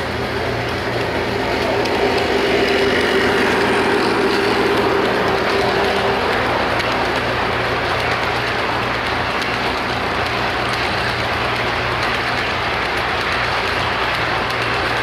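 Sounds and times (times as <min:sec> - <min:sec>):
toy train wheels rumbling on track: 0:00.0 - 0:15.0.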